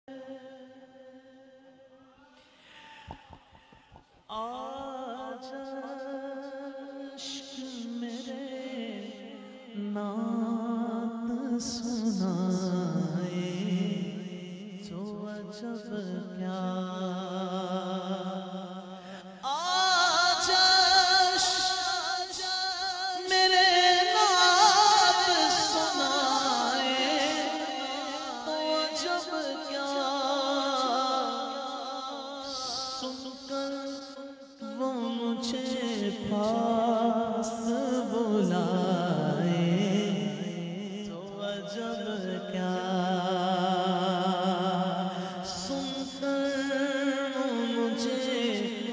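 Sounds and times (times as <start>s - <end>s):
solo voice singing: 4.3s - 48.9s.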